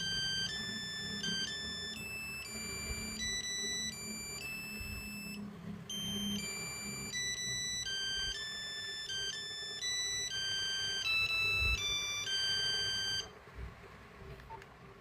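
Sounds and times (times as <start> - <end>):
electronic beeping ringtone melody: 0.0 - 13.3.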